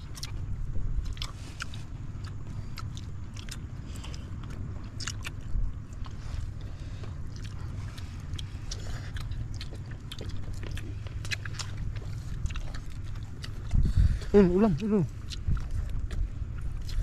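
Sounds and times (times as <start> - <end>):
chewing and lip smacks: 0.0 - 17.0
low rumble: 0.0 - 17.0.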